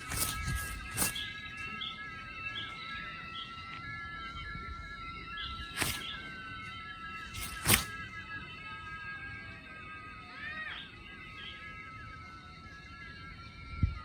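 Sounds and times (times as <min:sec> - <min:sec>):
high ringing tones: 0:00.0 - 0:14.0.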